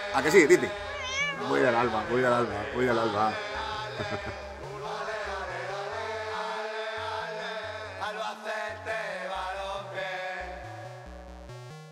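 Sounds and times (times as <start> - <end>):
male voices singing in chorus: 0.0 - 11.0.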